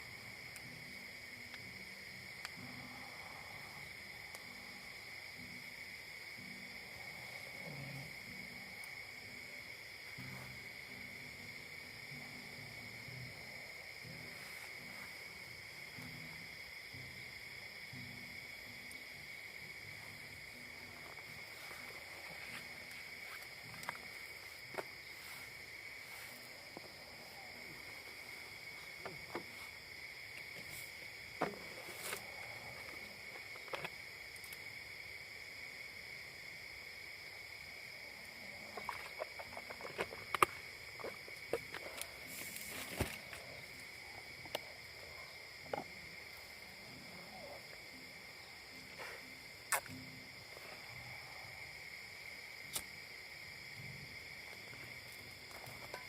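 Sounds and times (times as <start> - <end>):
insects droning at night: 0.0 - 56.0.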